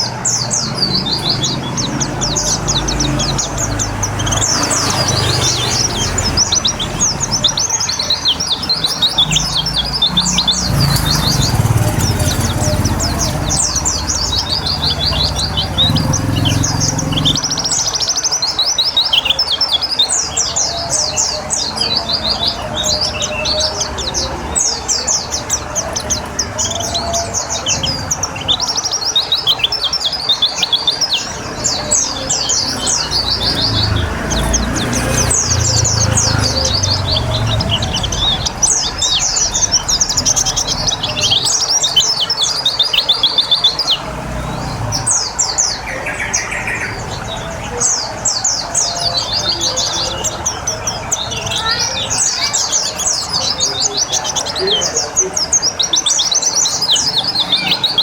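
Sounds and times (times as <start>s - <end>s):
bird twittering song: 0.0s - 58.0s.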